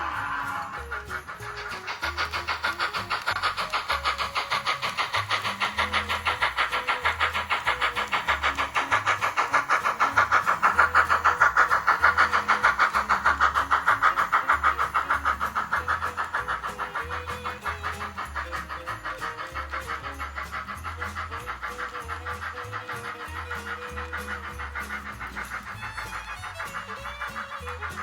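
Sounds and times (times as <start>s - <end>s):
model train clicking on track: 0.0s - 28.0s.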